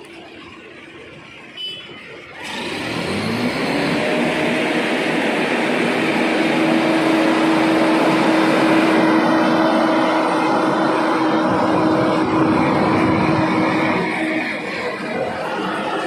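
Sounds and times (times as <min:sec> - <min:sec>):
loud rushing noise: 0:02.4 - 0:16.0
machine engine spinning up: 0:02.4 - 0:16.0.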